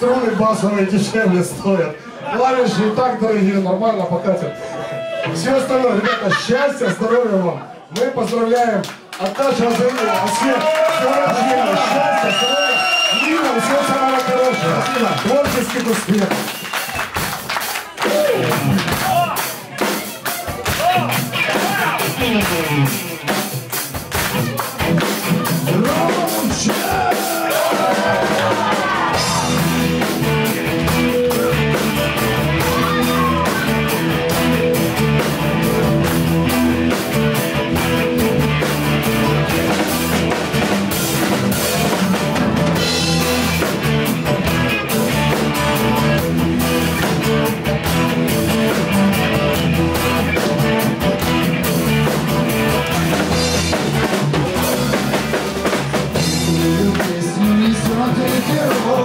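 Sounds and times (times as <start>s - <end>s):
live rock band playing: 0.0s - 8.7s, 9.4s - 59.0s.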